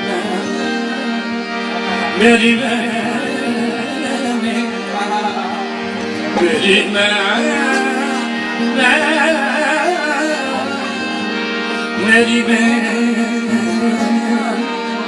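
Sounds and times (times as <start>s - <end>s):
held instrumental notes: 0.0s - 15.0s
man singing ornamented phrases: 2.0s - 5.7s, 6.4s - 15.0s.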